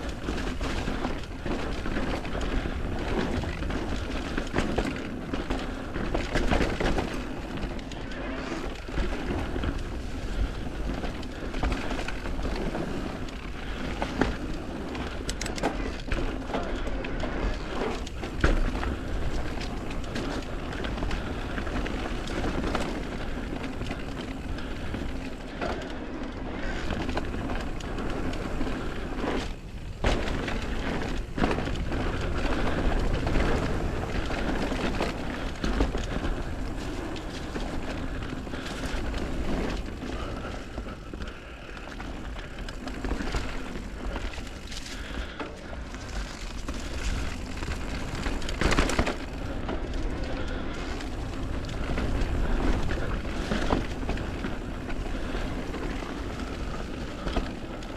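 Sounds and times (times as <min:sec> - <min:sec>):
bike knocks and rattles over bumps: 0:00.0 - 0:57.9
bike tyre and wind rush: 0:00.0 - 0:57.9.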